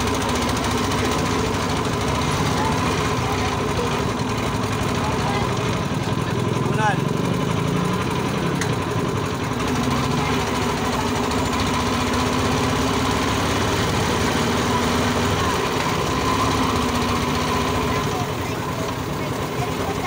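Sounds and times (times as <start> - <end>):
small engine droning: 0.0 - 20.0.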